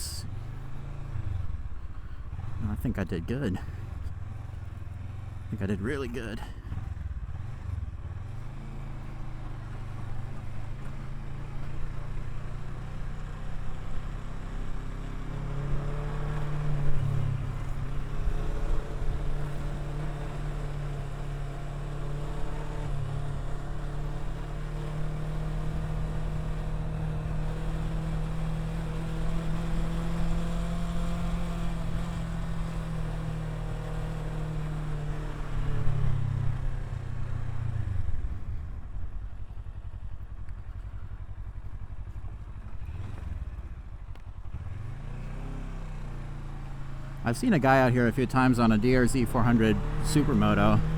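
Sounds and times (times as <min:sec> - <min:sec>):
motorcycle engine running: 0:03.6 - 0:50.9.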